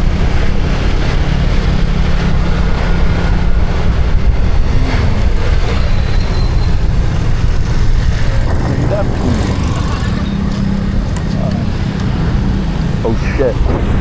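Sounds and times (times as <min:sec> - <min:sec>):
road noise: 0:00.0 - 0:14.0
low engine drone: 0:00.1 - 0:14.0.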